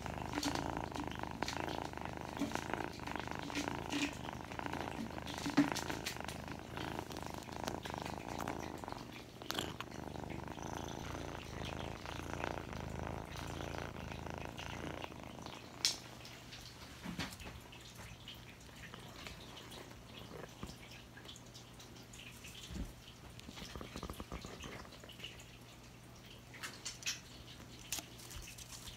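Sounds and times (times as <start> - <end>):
kitten purring: 0.0 - 21.6, 22.2 - 25.5.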